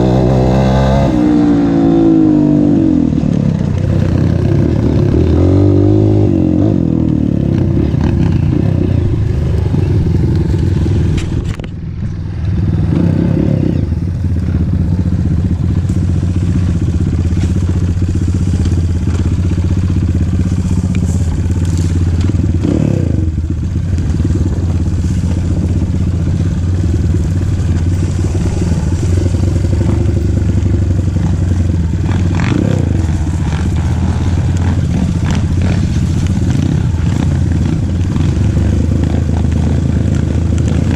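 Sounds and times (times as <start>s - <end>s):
motorcycle engine revving: 0.0s - 40.9s
motorcycle engine running: 0.0s - 40.9s.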